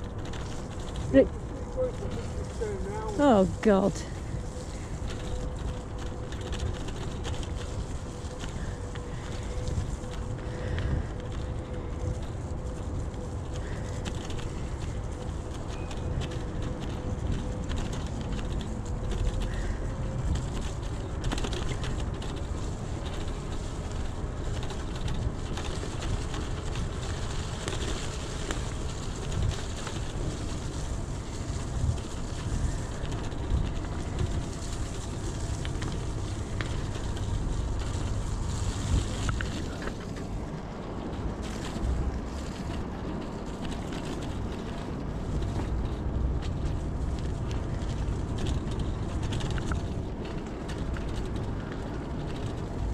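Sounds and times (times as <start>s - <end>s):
e-bike rolling and rattling: 0.0s - 52.9s
wind buffeting microphone: 0.0s - 52.9s.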